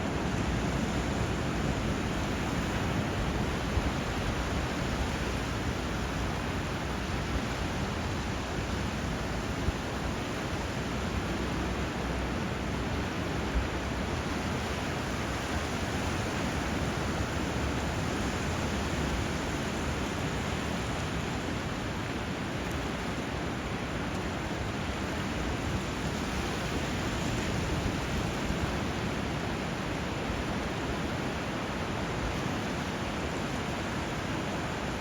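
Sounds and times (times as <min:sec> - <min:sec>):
flowing water and surf: 0:00.0 - 0:35.0.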